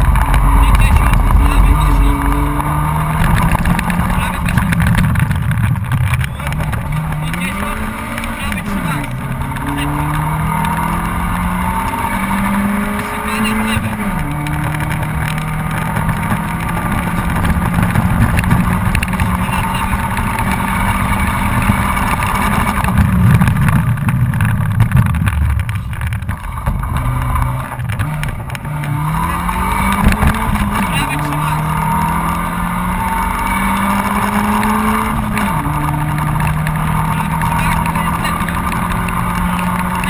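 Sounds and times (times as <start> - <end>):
car engine running under load: 0.0 - 40.0
tyre and road rumble: 0.0 - 40.0.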